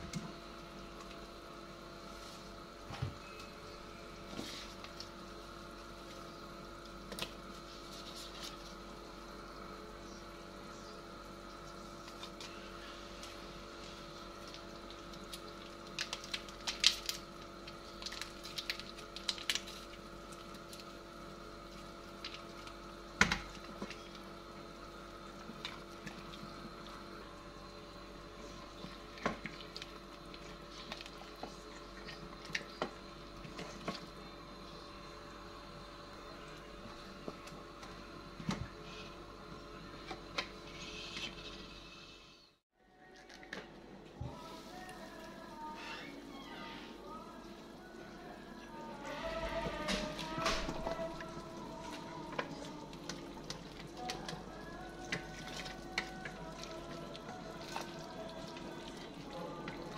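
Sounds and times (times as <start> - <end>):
broth simmering in a pot: 0.0 - 59.9
steady hum: 0.0 - 59.9.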